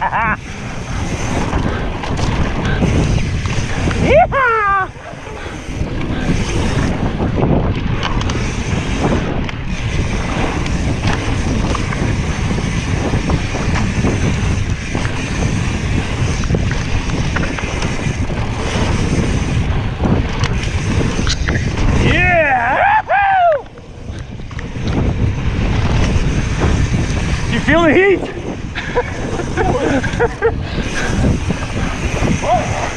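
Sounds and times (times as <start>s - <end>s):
bike rattles and knocks: 0.0s - 22.6s, 23.6s - 32.9s
bike tyre rumble: 0.0s - 32.9s
wind on microphone: 0.0s - 32.9s.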